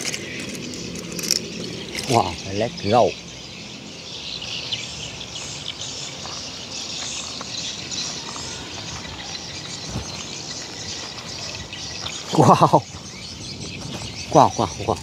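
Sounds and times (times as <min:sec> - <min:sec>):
insects and birds chirping: 0:00.0 - 0:15.0.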